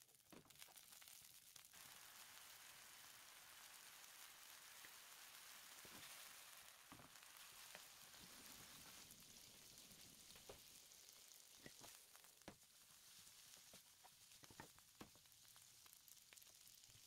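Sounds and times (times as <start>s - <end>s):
pasta sizzling in oil: 0.0s - 17.0s.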